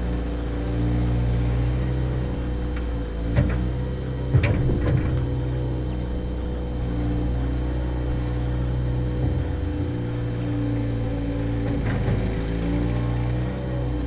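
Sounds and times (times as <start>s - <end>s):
loader engine running: 0.0s - 14.0s.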